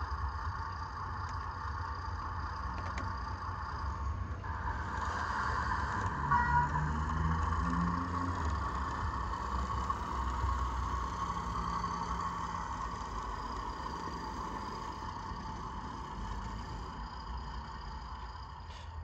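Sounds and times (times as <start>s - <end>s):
diesel engine sound from tiny speaker: 0.0s - 19.0s.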